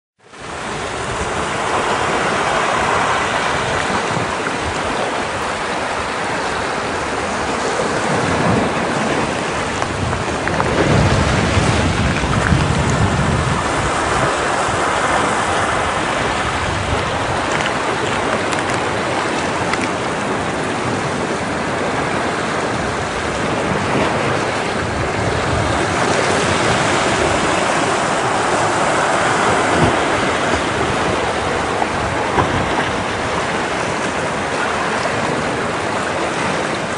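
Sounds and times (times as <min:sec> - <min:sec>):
waves breaking against rocks: 0:00.3 - 0:36.9.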